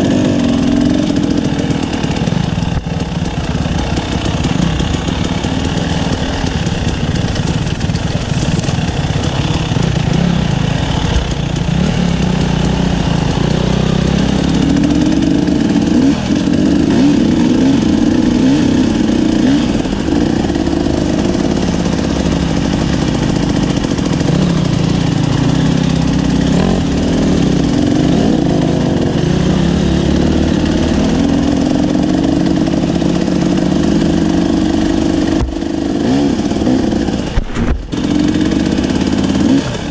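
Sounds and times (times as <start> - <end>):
two-stroke motorbike engine revving: 0.0 - 39.9.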